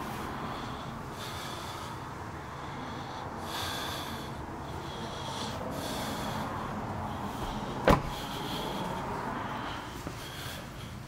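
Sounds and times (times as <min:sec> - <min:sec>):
person breathing through the nose: 0:00.0 - 0:11.0
steady background noise: 0:00.0 - 0:11.0.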